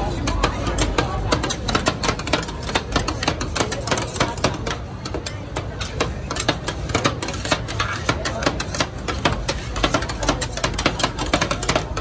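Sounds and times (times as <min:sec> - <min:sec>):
metal spatulas scraping cold plate: 0:00.0 - 0:12.0.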